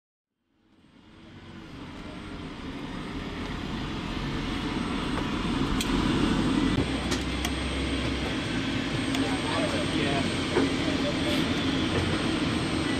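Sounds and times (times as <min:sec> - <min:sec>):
aircraft engine running: 0:00.5 - 0:12.9.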